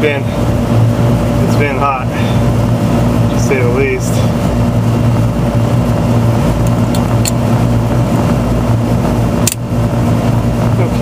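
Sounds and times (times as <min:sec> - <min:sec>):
machinery hum with electrical buzz: 0:00.0 - 0:11.0.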